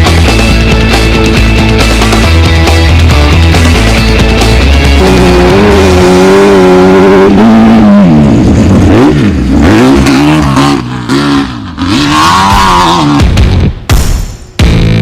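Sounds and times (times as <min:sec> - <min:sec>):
race car engine revving: 0:00.0 - 0:13.4.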